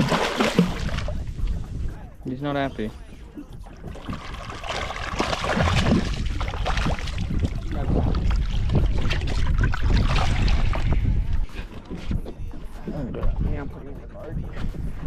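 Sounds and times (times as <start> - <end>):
water splashing against boat: 0.0 - 15.0
wind on microphone: 0.0 - 15.0.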